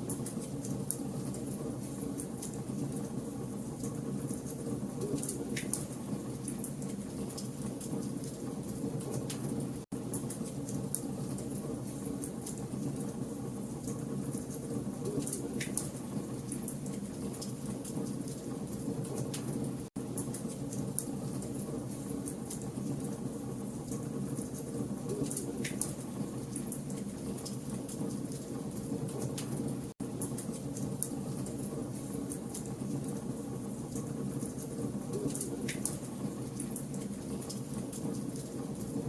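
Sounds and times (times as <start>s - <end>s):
fire crackling: 0.0s - 39.0s.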